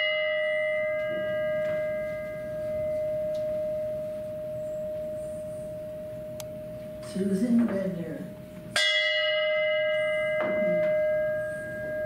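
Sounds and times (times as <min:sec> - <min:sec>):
bell ringing: 0:00.0 - 0:07.4, 0:08.7 - 0:12.0.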